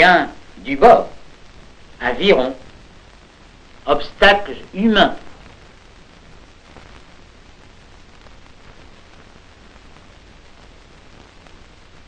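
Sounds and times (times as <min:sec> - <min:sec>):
faint crackle: 0:00.0 - 0:12.0
film soundtrack hiss: 0:00.0 - 0:12.0.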